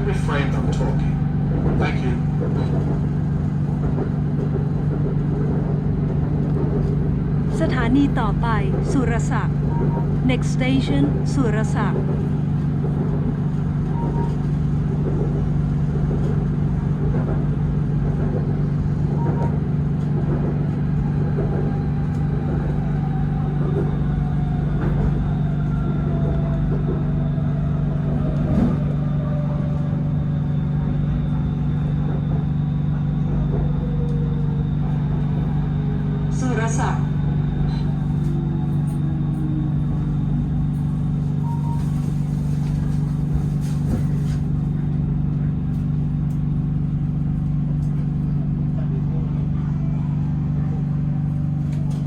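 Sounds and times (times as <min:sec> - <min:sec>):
electric train rumbling: 0:00.0 - 0:52.0.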